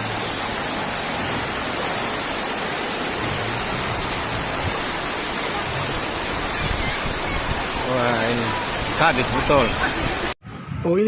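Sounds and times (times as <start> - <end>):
floodwater rushing: 0.0 - 10.4.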